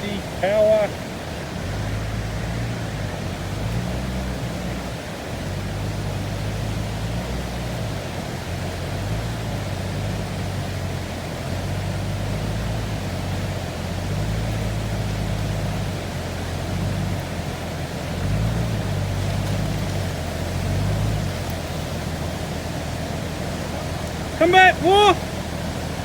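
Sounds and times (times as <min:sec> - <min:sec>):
engine pulling under load: 0:00.0 - 0:26.0.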